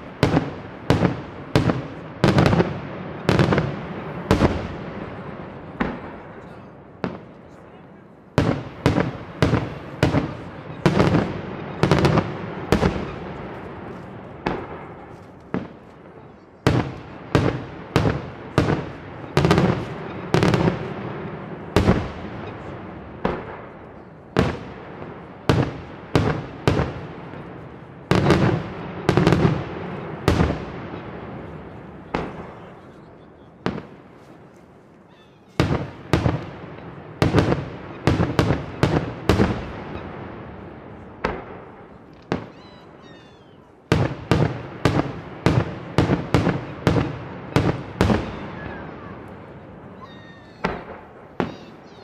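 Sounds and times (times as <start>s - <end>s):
fireworks bangs with echo: 0.0s - 52.0s.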